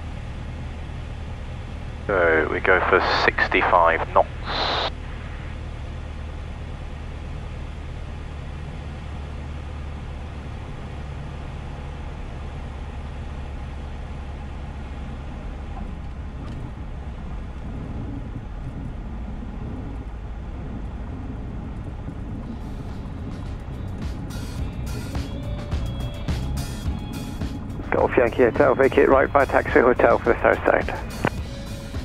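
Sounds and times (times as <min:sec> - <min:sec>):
piston engine droning: 0:00.0 - 0:32.0.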